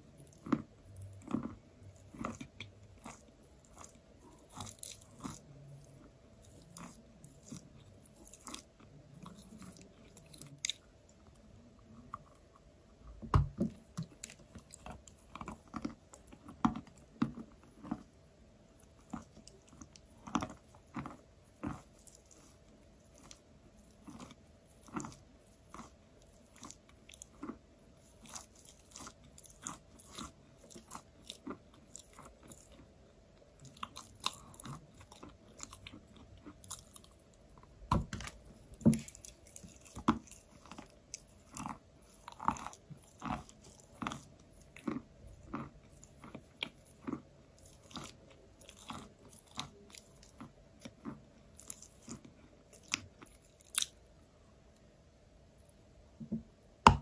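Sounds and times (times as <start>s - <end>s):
chalk crunching while chewing: 0.0s - 12.7s, 13.5s - 54.1s.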